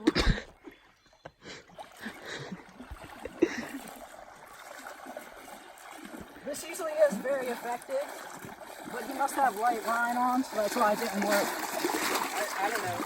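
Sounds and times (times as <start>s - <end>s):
water sloshing and trickling: 0.1s - 13.0s.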